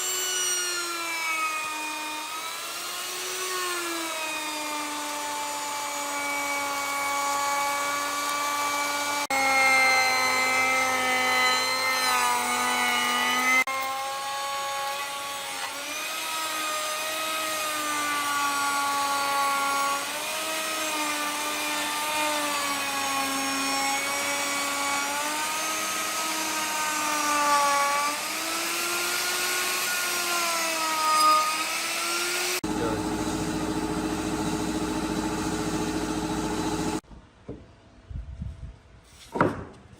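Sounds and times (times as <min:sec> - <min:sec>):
power tool cutting wood: 0:00.0 - 0:37.0.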